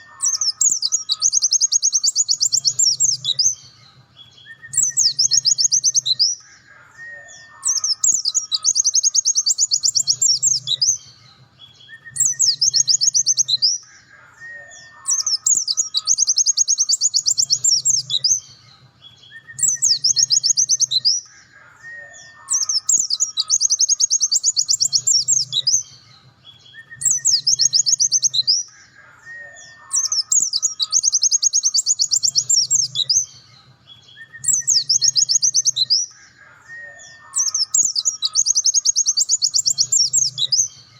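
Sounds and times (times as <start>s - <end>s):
bird singing with fast trills: 0.0s - 40.9s.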